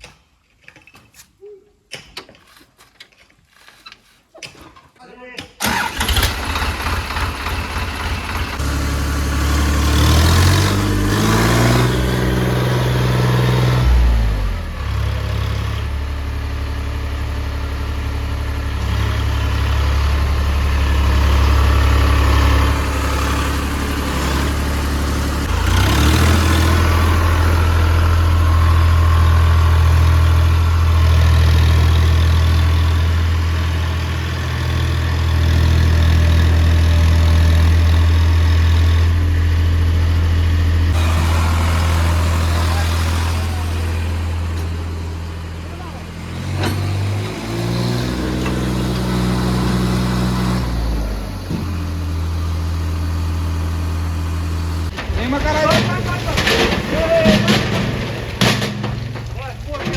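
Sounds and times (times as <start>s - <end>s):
heavy diesel engine revving: 5.6s - 59.9s.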